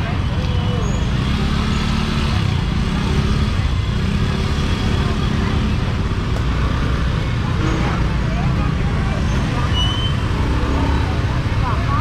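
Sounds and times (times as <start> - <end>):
faint voices: 0.0 - 12.0
traffic rumble: 0.0 - 12.0.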